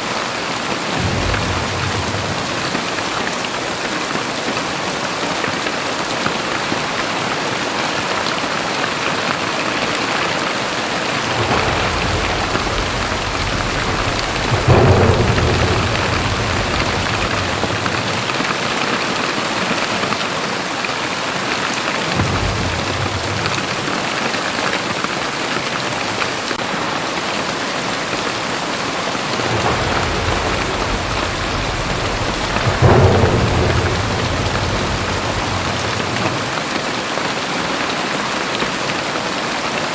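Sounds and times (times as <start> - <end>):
heavy rain: 0.0 - 39.9
thunder rumbling: 0.5 - 5.6, 8.1 - 20.0, 21.7 - 37.5.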